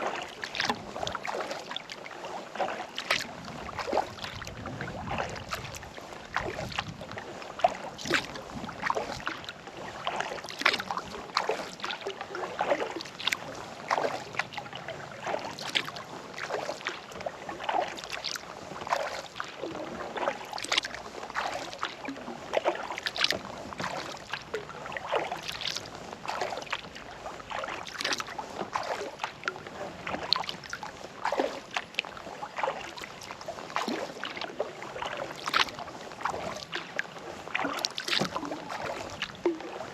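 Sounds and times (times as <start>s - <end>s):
paddle splashing into water: 0.0s - 39.9s.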